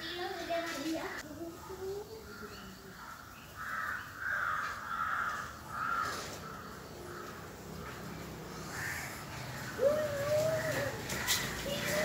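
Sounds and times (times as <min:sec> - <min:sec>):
bird harsh raspy calls: 0:02.3 - 0:12.0.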